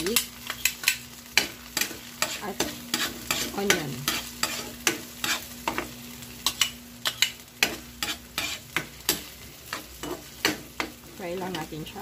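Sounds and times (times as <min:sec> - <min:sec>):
garlic and onion sizzling in oil: 0:00.0 - 0:12.0
metal spoon scraping a pan: 0:00.1 - 0:11.8.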